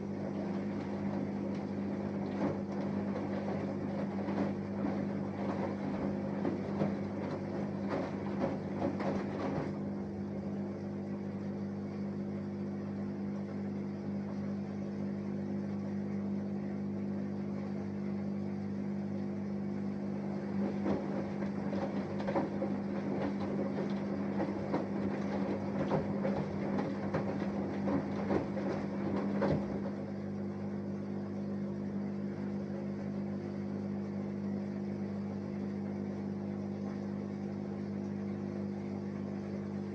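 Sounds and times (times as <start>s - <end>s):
washing machine humming: 0.0s - 39.9s
washing tumbling and swishing: 0.0s - 39.9s.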